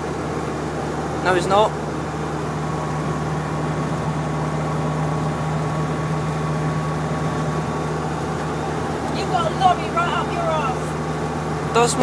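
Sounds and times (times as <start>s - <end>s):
engine and road noise droning: 0.0s - 12.0s.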